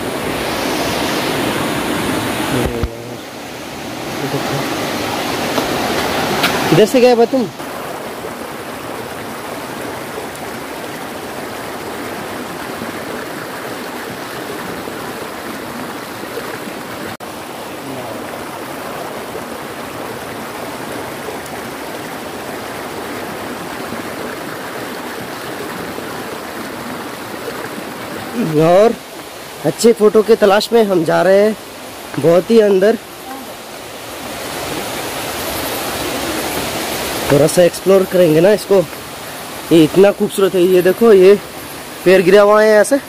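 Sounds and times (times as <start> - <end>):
stream rushing over boulders: 0.0 - 43.0.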